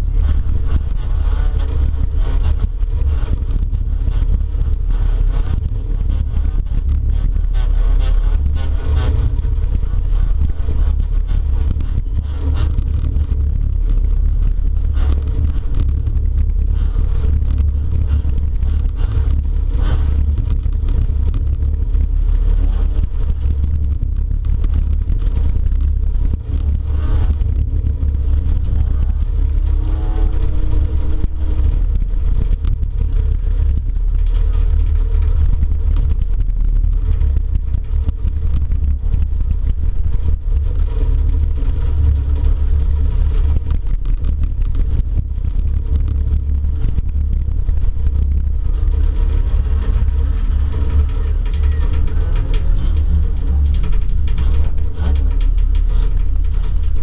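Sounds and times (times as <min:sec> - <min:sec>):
heavy low rumble: 0:00.0 - 0:57.0.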